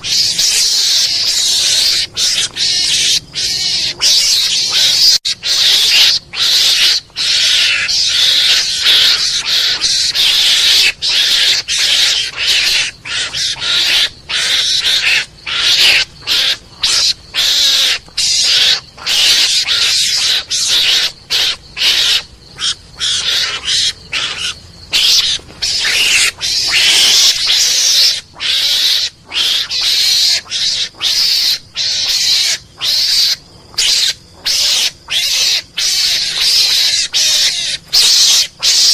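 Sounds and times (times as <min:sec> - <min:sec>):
mongoose chattering calls: 0:00.0 - 0:38.9.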